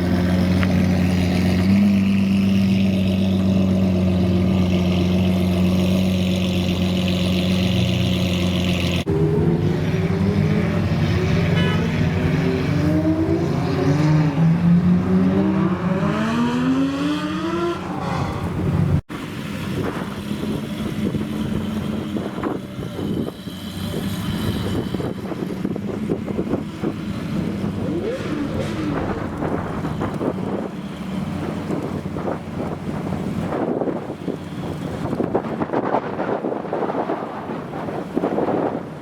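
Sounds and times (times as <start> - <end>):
rough car noise: 0.0 - 39.0.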